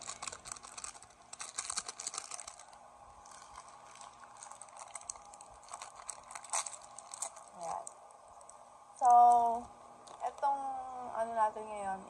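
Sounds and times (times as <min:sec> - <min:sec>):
plastic wrapper crinkling: 0:00.0 - 0:10.4.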